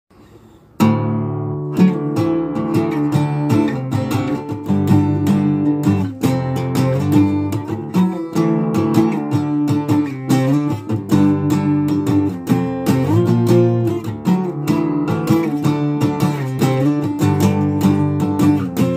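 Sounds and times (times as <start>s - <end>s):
acoustic guitar strummed chords: 0.2s - 18.9s.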